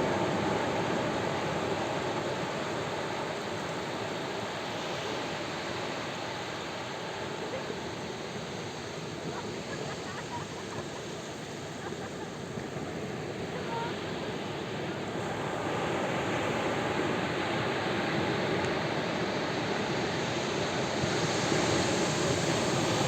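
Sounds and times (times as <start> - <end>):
surf waves breaking on shore: 0.0 - 23.0.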